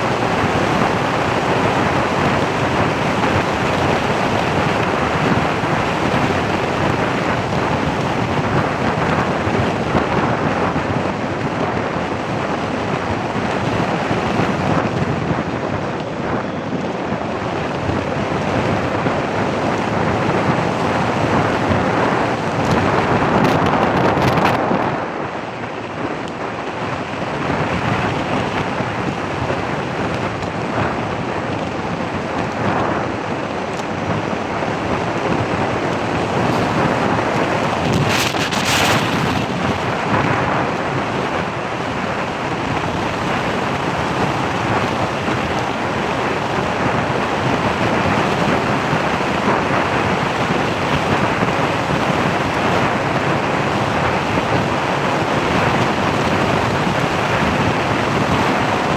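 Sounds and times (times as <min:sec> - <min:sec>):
wind noise on microphone: 0:00.0 - 0:58.9.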